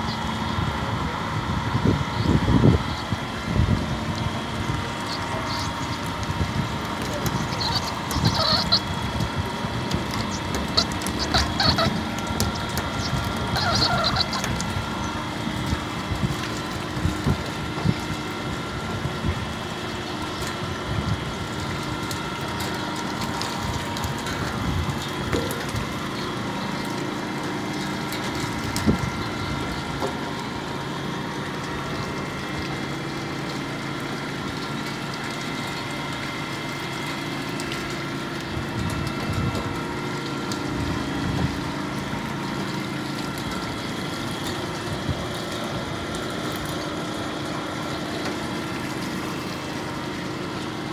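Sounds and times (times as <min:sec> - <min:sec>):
machine hum: 0:00.0 - 0:50.9
water running through trough: 0:02.7 - 0:50.9.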